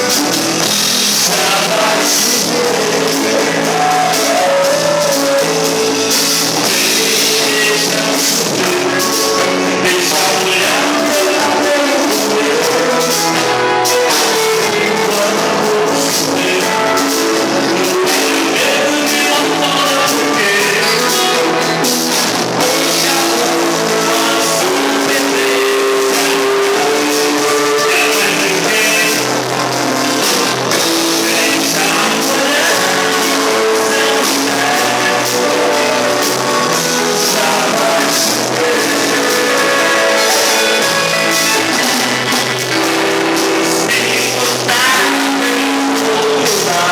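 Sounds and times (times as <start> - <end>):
drum kit: 0.0 - 46.9
electric guitar: 0.0 - 46.9
person singing: 0.0 - 46.9.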